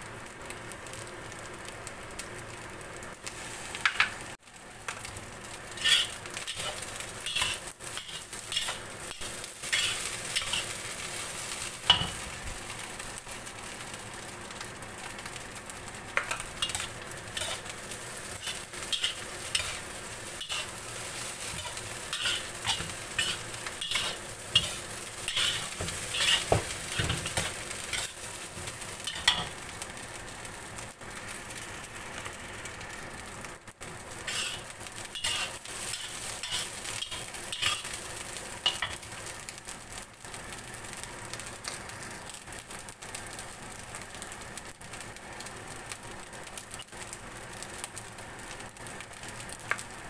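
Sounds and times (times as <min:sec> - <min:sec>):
rice sizzling in a wok: 0:00.0 - 0:50.0.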